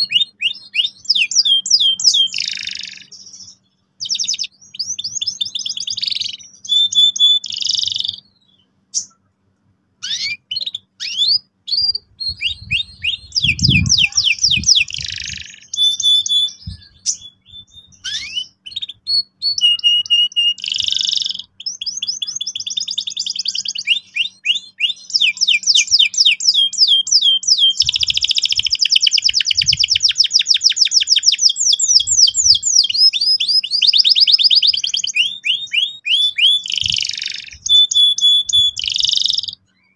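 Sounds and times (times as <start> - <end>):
canary singing trills: 0.0 - 9.3, 10.0 - 39.9.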